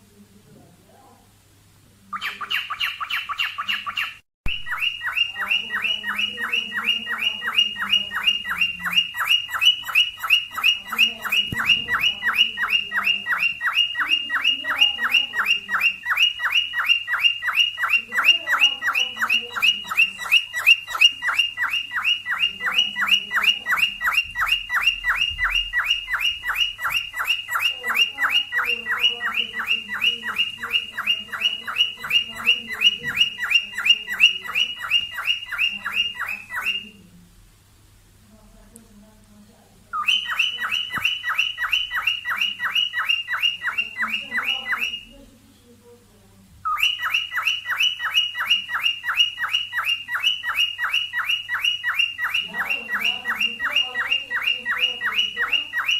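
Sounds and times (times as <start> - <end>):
cockatiel chirping: 2.1 - 37.1, 39.9 - 45.3, 46.6 - 55.9.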